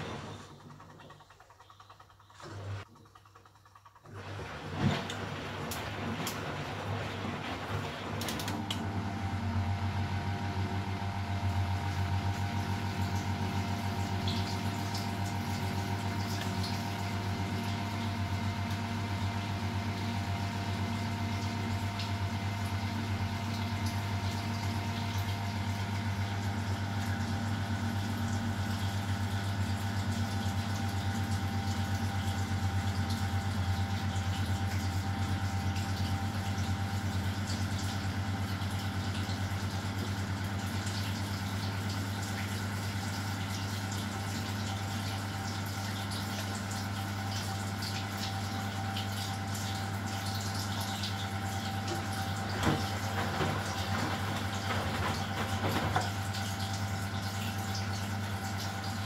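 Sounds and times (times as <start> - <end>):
washing machine hum: 0.0 - 59.0
water sloshing in drum: 11.3 - 59.0.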